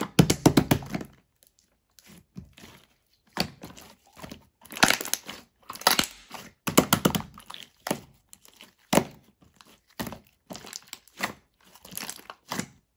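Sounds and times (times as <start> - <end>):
crinkling and crunching: 0.8 - 12.9.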